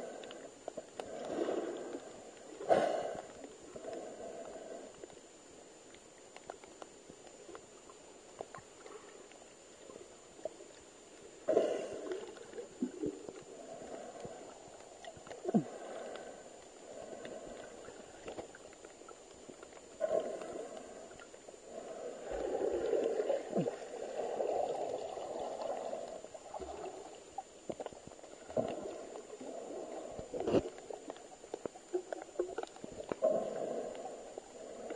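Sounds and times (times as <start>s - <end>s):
underwater gurgling and sloshing: 0.0s - 34.9s.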